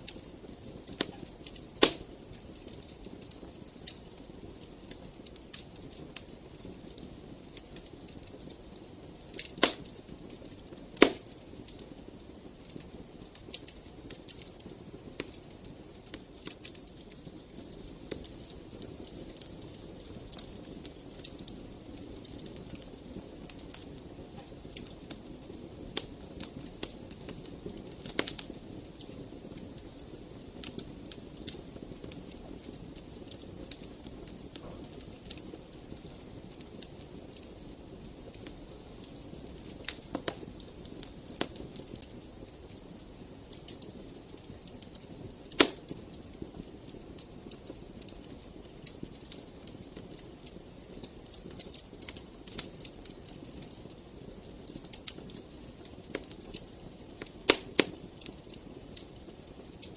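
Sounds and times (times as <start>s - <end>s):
fire crackling with sharp pops: 0.0s - 59.9s.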